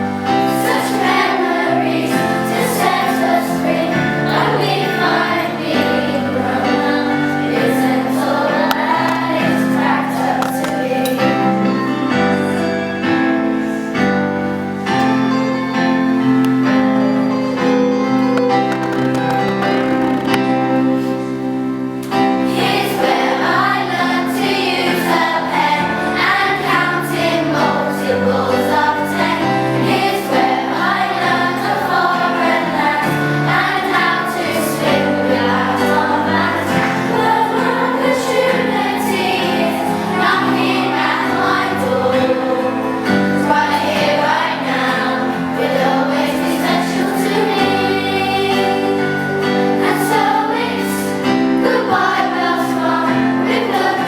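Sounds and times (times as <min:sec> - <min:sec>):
group of voices singing: 0:00.0 - 0:13.0, 0:18.4 - 0:54.0
instrumental accompaniment: 0:00.0 - 0:54.0.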